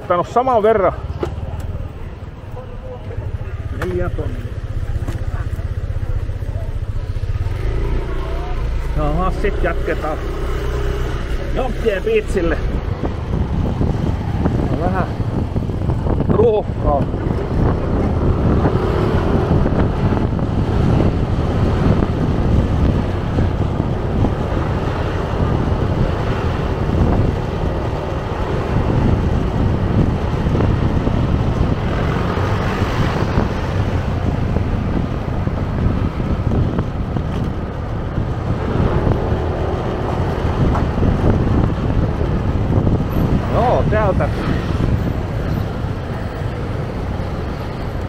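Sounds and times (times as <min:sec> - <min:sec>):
street traffic: 0:00.0 - 0:48.0
wind rushing over microphone: 0:00.0 - 0:48.0
scooter engine running: 0:01.0 - 0:43.8.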